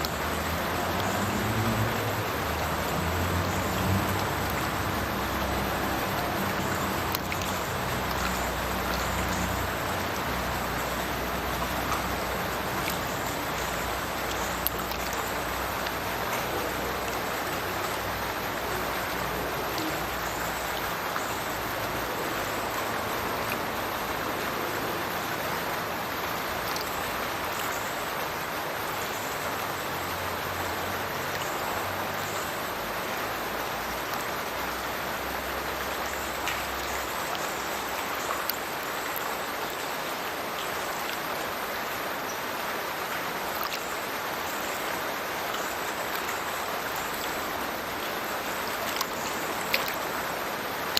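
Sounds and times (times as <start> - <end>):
water splashing into river: 0.0 - 50.9.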